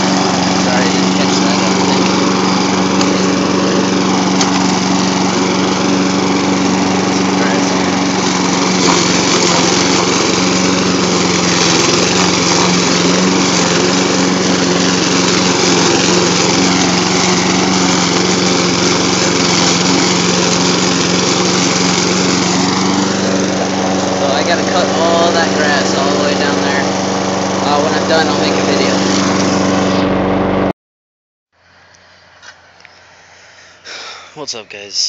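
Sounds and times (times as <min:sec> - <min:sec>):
lawn mower engine running: 0:00.0 - 0:30.7, 0:31.6 - 0:35.0.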